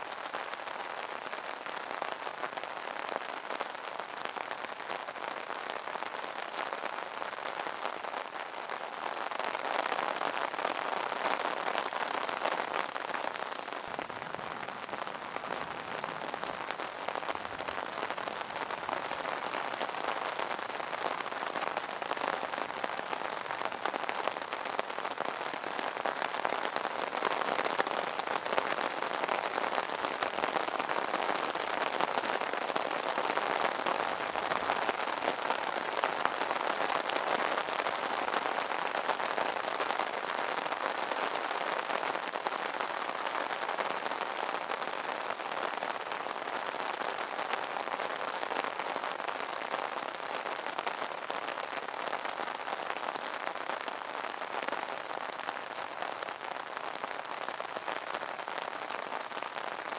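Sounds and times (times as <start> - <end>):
rain pattering on umbrella: 0.0 - 59.9.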